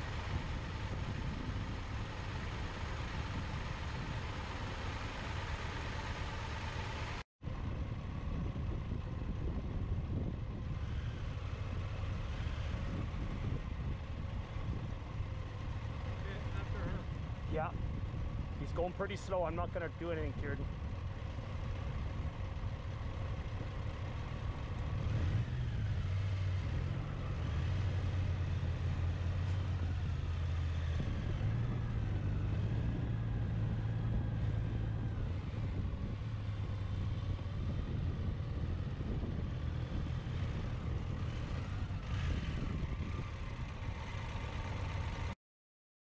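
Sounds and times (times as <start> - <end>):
car engine and road noise: 0.0 - 45.4.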